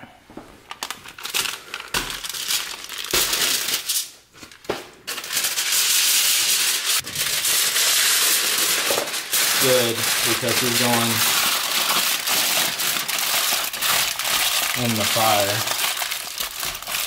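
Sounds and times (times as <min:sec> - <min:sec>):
aluminum foil crinkling: 0:00.7 - 0:17.0.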